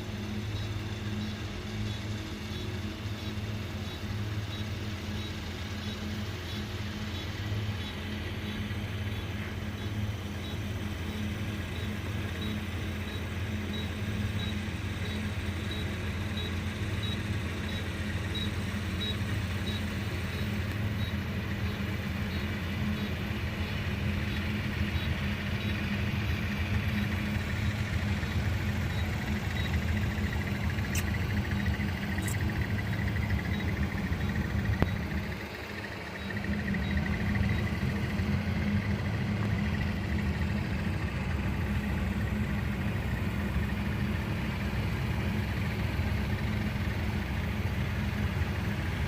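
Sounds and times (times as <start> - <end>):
harvester engine drone: 0.0 - 49.0.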